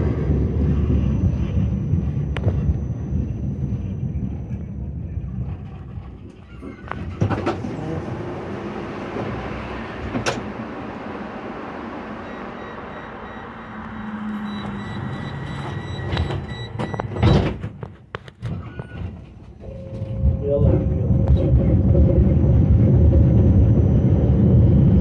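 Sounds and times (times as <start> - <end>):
high steady whine: 0.0 - 6.3, 8.4 - 17.4, 19.6 - 25.0
tram clunk: 0.0 - 22.0
tram rumbling: 0.0 - 25.0.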